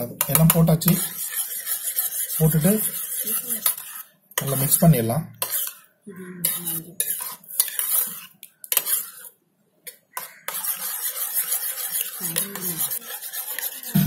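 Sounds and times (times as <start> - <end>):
metal spoon beating eggs in bowl: 0.0 - 14.0.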